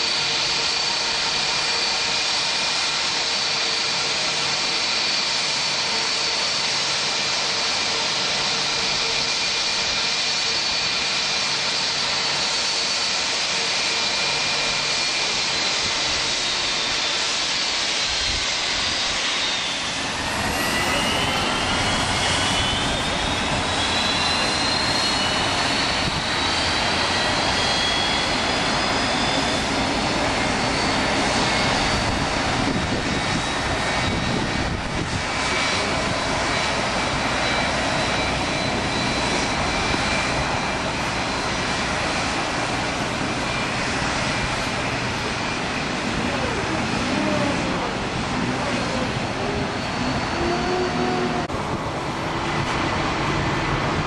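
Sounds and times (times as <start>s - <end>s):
high jet engine whine: 0.0s - 54.0s
jet engines rumbling: 0.0s - 54.0s.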